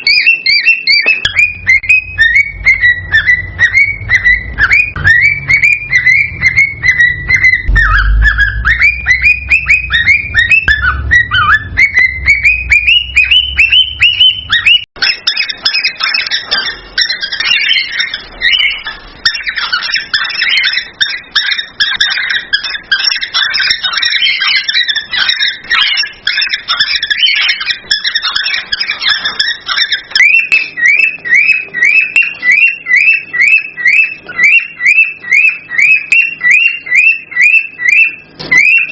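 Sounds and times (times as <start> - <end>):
cockatiels whistling rising notes: 0.0 - 38.9
overlapping chattering bird calls: 0.0 - 38.9.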